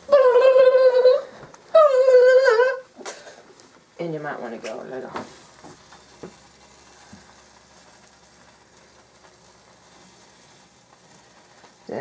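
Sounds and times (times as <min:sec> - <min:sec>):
sandwich sizzling on a griddle: 0:00.0 - 0:12.0.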